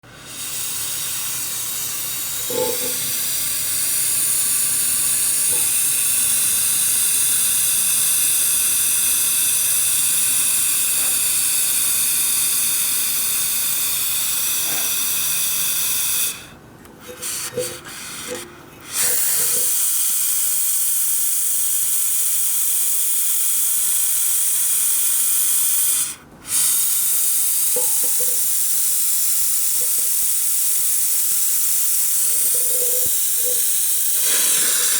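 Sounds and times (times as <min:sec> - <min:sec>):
gas hissing from heater: 0:00.0 - 0:34.9.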